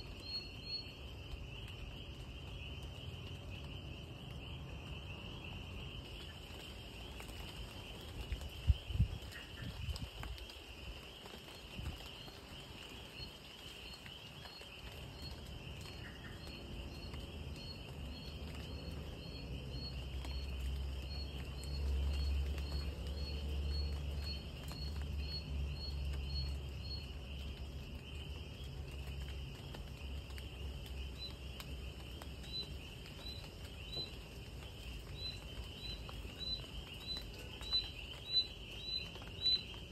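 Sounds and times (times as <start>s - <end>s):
crickets trilling: 0.0s - 39.9s
insect chirping: 0.0s - 39.9s.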